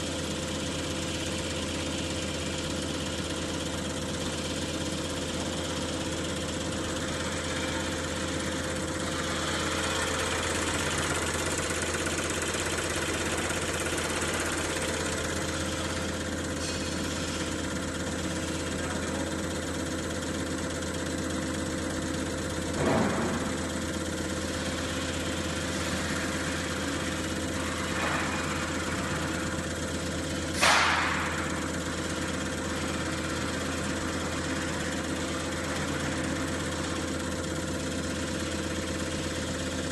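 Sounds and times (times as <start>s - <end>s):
test bench machine hum: 0.0s - 39.9s.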